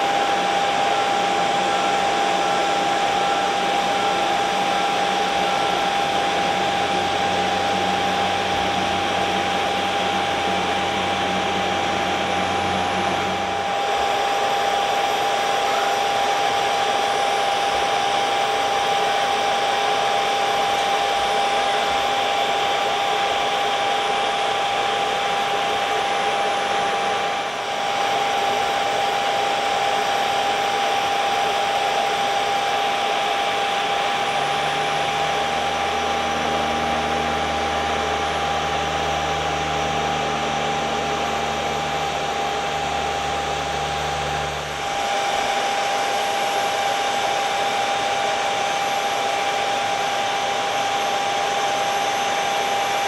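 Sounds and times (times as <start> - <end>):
jet engine whine: 0.0 - 53.0
low hum: 0.0 - 53.0.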